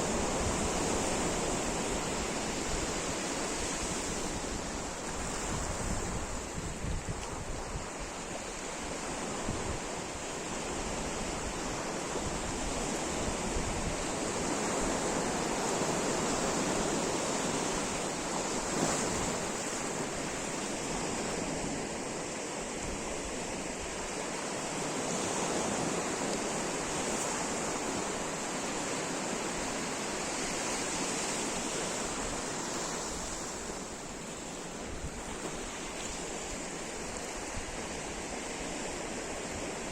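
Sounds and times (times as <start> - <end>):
sea surf breaking: 0.0 - 39.9.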